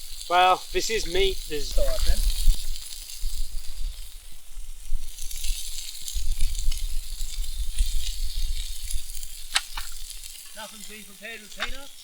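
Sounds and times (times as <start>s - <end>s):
meat sizzling on a grill: 0.0s - 12.0s
wind buffeting microphone: 0.0s - 12.0s.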